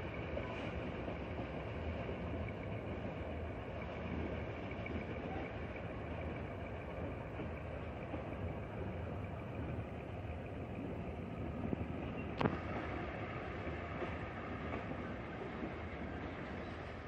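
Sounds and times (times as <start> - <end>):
train wagons rumbling: 0.0 - 17.0.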